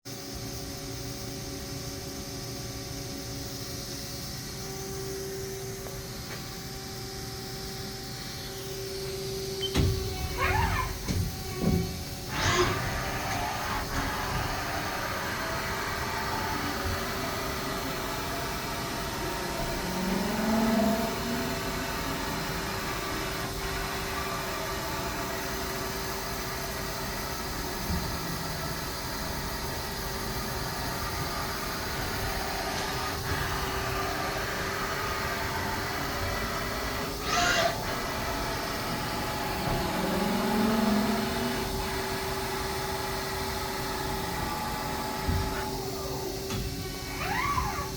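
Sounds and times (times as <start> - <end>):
lathe machine hum and whine: 0.1 - 47.9.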